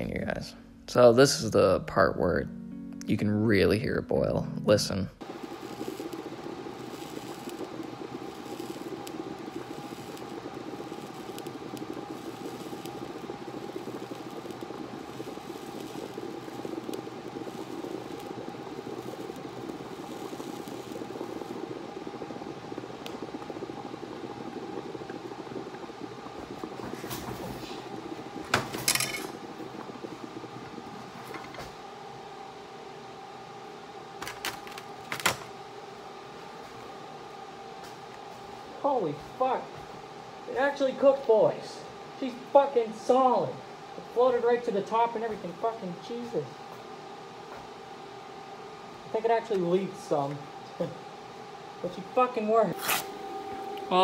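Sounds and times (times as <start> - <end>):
water boiling with bubbling hiss: 5.2 - 54.0.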